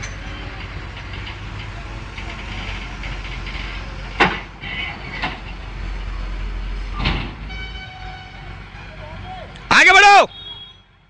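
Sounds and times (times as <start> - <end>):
excavator diesel engine running: 0.0 - 9.7.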